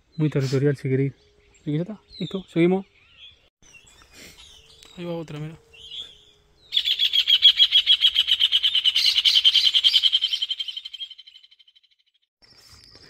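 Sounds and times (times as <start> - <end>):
bird trilling: 1.2 - 12.0.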